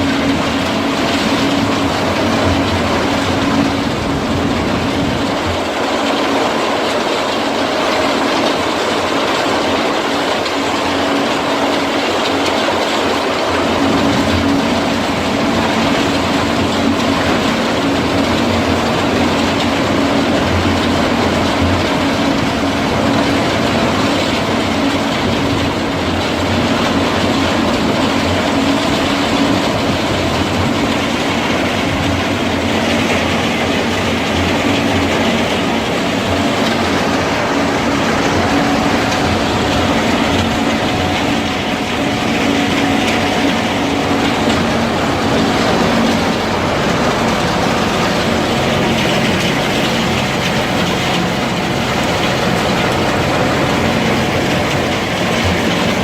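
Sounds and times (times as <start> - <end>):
wood chipper running: 0.0 - 56.0.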